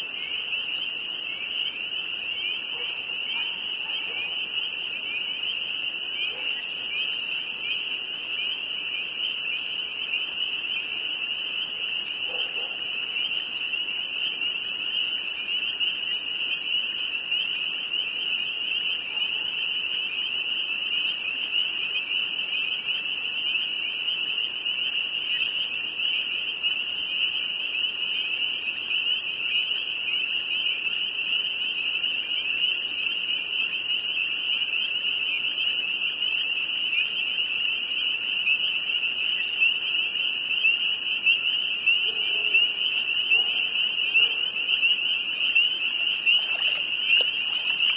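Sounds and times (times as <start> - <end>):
chorus of frogs peeping: 0.0 - 47.9.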